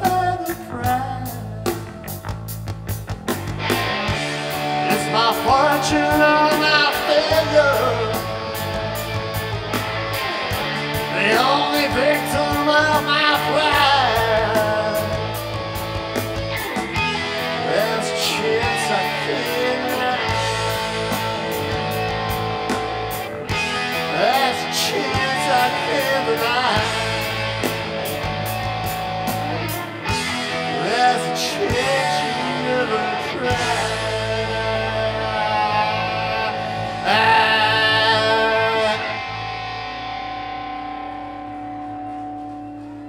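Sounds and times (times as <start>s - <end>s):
bending electric guitar notes: 0.0s - 43.0s
live rock band: 0.0s - 43.0s.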